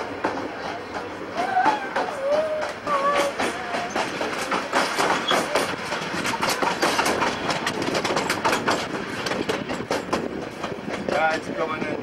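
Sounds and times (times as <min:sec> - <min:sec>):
train rumbling: 0:00.0 - 0:12.0
wheels clicking and rattling: 0:00.0 - 0:12.0.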